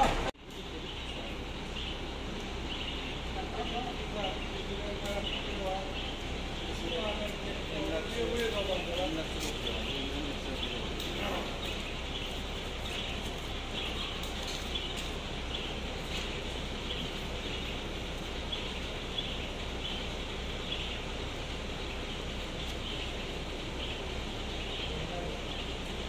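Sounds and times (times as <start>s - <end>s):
low engine hum: 0.0s - 26.0s
street hiss: 0.0s - 26.0s
small birds chirping: 0.4s - 26.0s.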